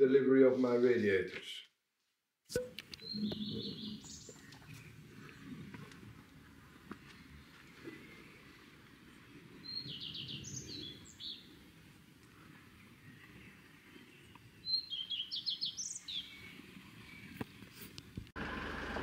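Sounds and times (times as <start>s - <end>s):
songbird singing: 2.6s - 18.1s.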